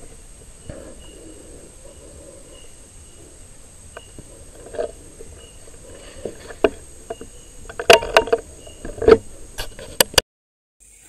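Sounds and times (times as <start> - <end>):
leaves rustling: 0.0 - 10.1.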